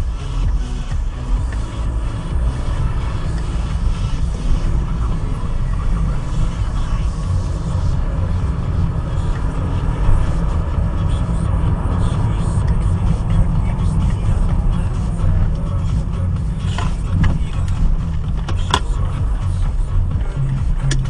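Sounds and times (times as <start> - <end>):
car engine rumble: 0.0 - 21.0
tyres on wet road: 0.0 - 21.0.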